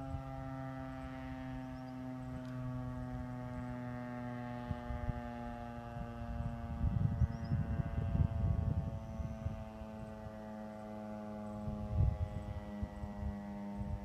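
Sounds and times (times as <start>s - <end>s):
distant fire siren wailing: 0.0s - 14.0s
low rumbling noise: 0.0s - 14.0s.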